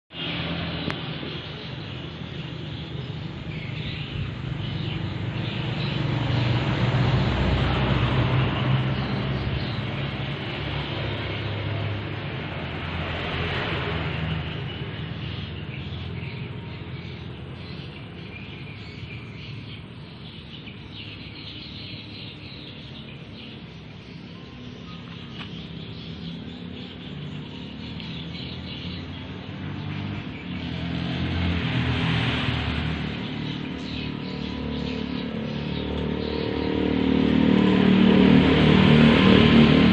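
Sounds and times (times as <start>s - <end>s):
outdoor background noise: 0.1s - 39.9s.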